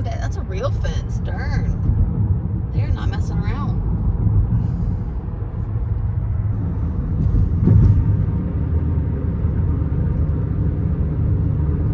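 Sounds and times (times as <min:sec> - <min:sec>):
car interior road and engine rumble: 0:00.0 - 0:11.9.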